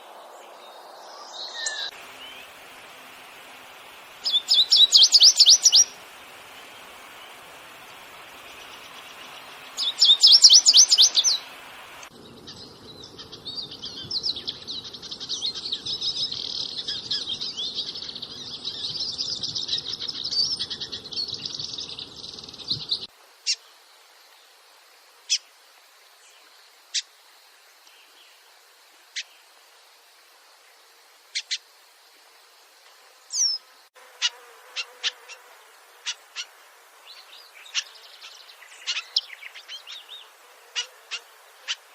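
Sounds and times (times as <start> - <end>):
small songbirds chirping: 0.0 - 24.6, 25.3 - 33.8, 36.1 - 41.9.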